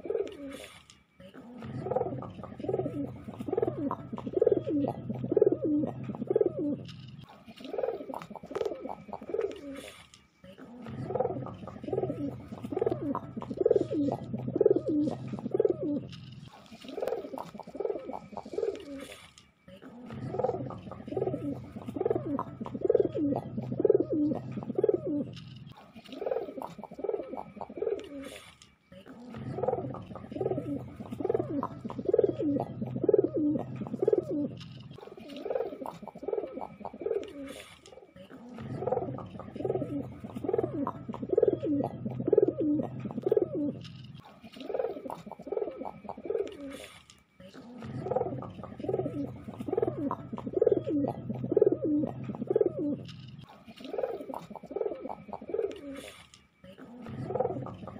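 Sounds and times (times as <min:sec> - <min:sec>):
pigeon cooing: 0:00.0 - 0:57.9.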